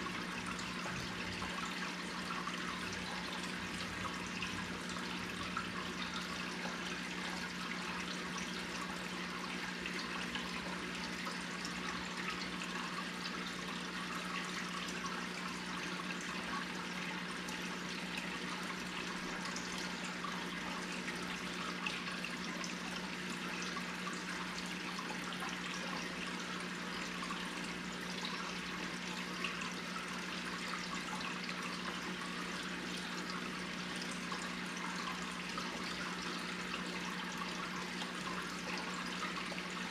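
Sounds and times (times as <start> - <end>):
low pump hum: 0.0 - 39.9
water bubbling in aquarium: 0.0 - 39.9.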